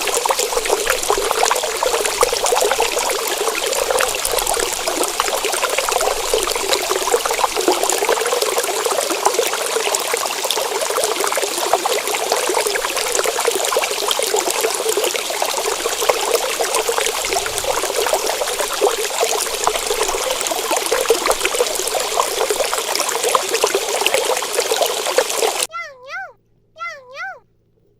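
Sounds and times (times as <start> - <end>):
water trickling: 0.0 - 25.7.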